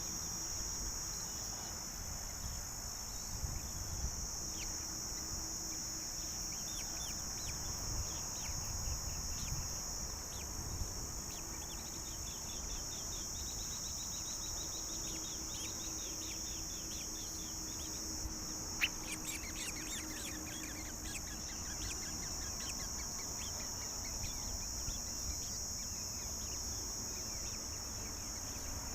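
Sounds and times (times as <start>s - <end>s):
high-pitched insect drone: 0.0s - 28.9s
rapid bird chirps: 4.5s - 10.5s, 11.2s - 28.9s.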